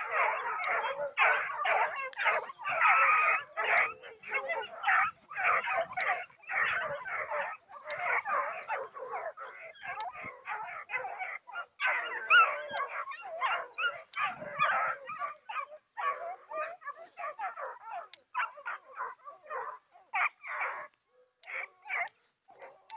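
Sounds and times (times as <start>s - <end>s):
hound puppies yelping and baying: 0.0s - 22.9s.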